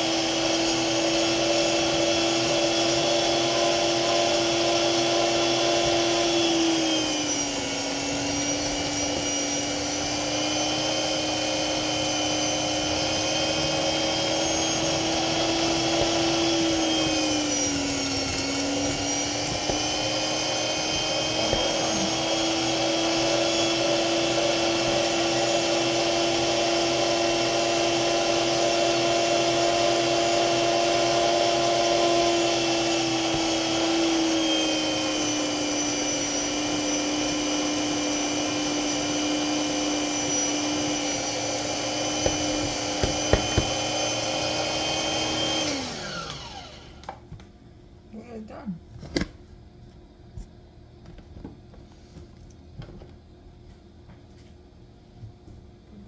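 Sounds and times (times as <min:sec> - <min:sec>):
kitchen appliance motor whining: 0:00.0 - 0:47.2.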